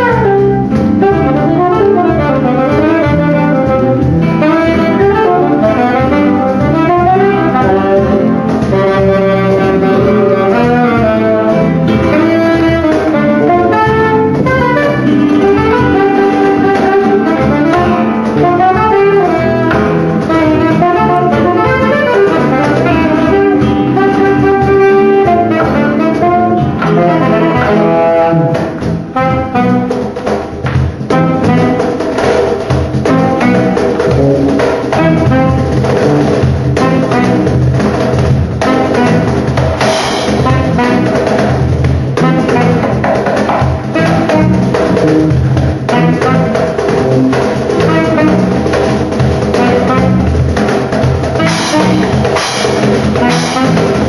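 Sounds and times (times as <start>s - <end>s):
acoustic guitar: 0.0s - 54.0s
percussion: 0.0s - 54.0s
saxophone melody: 0.0s - 54.0s.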